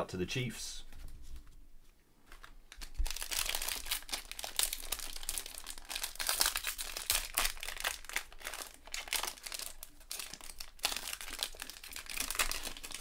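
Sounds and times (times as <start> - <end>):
plastic wrapper crinkling: 2.2 - 13.0.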